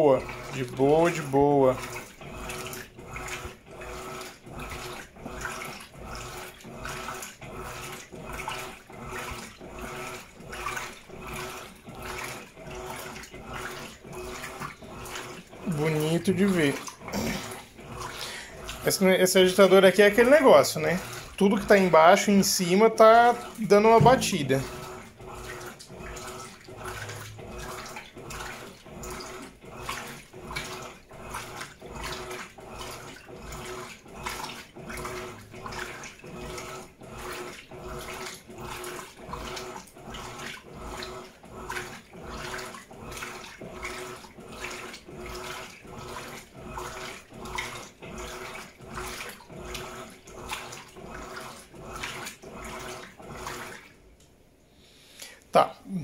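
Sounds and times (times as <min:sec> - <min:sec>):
motor hum: 0:00.0 - 0:53.9
washing machine sloshing: 0:00.0 - 0:56.0.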